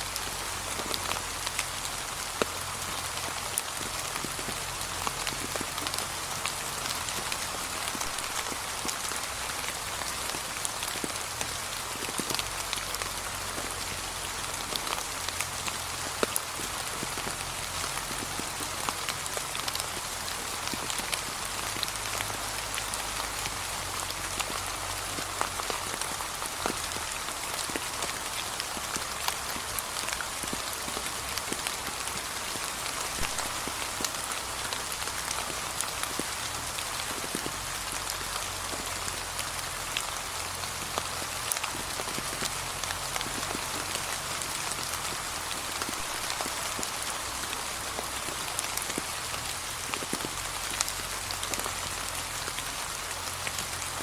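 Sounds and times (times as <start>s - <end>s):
gentle rain hissing: 0.0s - 54.0s
small raindrop ticks: 0.0s - 54.0s.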